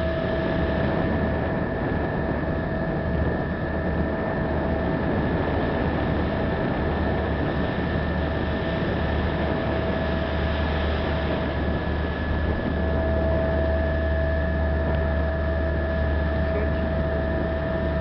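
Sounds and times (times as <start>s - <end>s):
ship engine droning: 0.0s - 18.0s
wind and water hiss: 0.0s - 18.0s.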